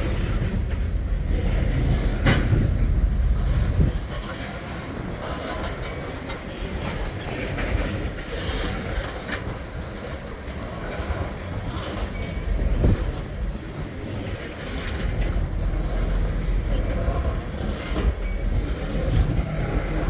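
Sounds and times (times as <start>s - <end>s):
freight train wheels rumbling: 0.0s - 20.0s
wheels clicking over rail joints: 0.0s - 20.0s.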